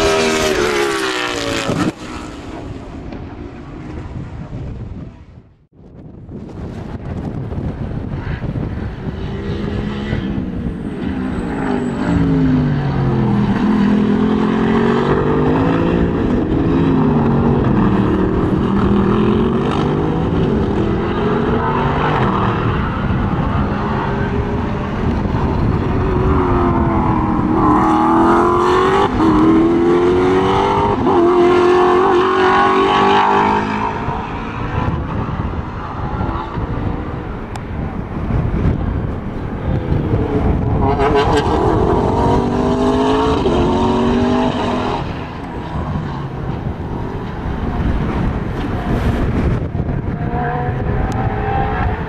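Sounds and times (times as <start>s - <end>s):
race car engines revving: 0.0s - 5.1s, 6.6s - 52.0s
wind buffeting microphone: 0.0s - 52.0s.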